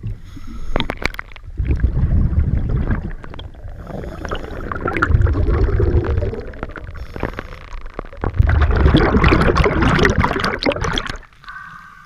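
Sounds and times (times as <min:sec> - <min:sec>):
underwater bubbling and rushing water: 0:00.0 - 0:12.0.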